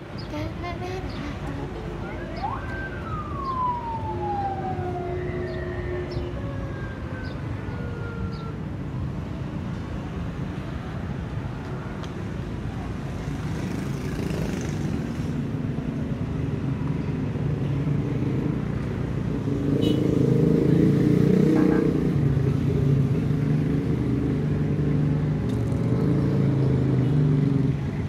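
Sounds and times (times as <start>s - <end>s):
vehicle approaching: 0.0s - 11.6s, 12.7s - 28.0s
road traffic: 0.0s - 28.0s.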